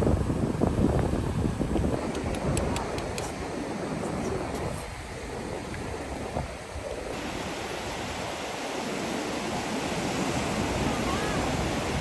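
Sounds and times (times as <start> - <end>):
sea surf breaking on beach: 0.0 - 12.0.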